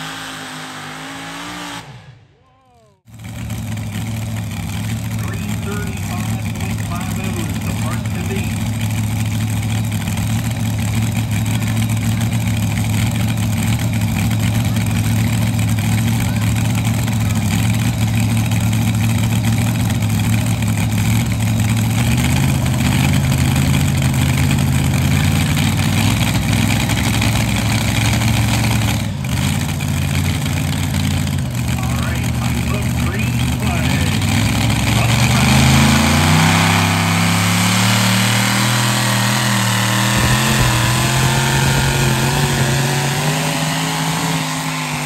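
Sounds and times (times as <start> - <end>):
tractor engine idling: 2.4 - 36.5, 37.1 - 45.0.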